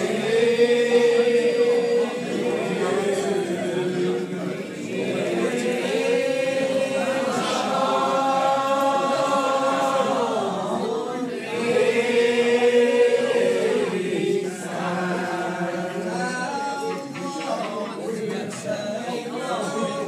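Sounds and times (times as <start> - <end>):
unaccompanied hymn singing: 0.0 - 20.0.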